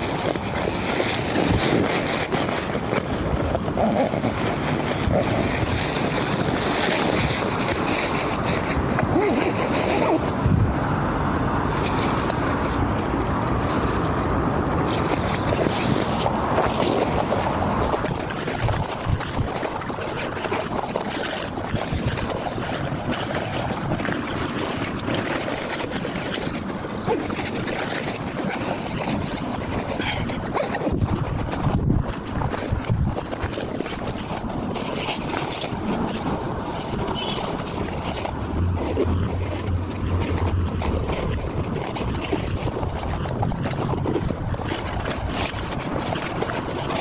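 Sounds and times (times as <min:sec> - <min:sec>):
nylon sack rustling: 0:00.0 - 0:10.8, 0:11.7 - 0:47.0
wind buffeting microphone: 0:00.0 - 0:47.0.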